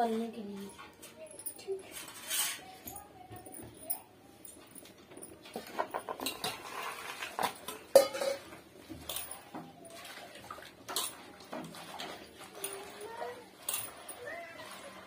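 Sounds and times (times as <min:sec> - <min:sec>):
pot and utensils clinking: 0:00.0 - 0:15.0.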